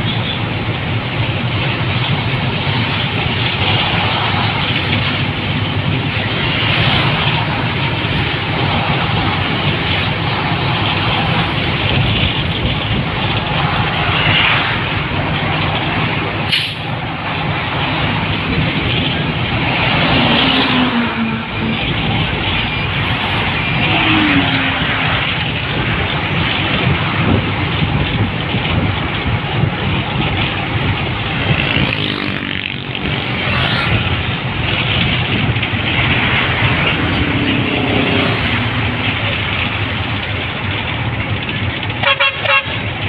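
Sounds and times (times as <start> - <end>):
road and traffic noise: 0.0 - 43.0.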